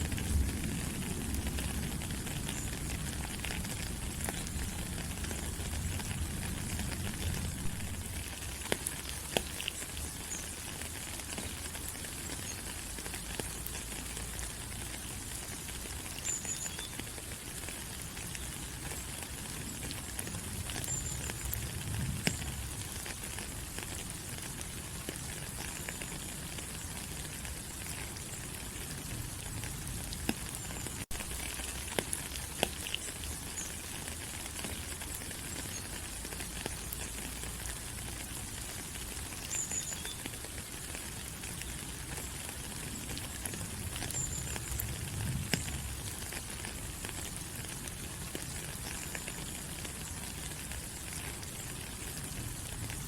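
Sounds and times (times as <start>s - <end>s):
rain falling on leaves: 0.0s - 53.0s.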